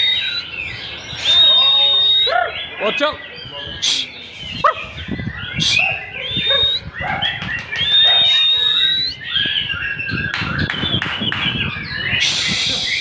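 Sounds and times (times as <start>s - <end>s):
songbird whistling and chattering: 0.0s - 13.0s.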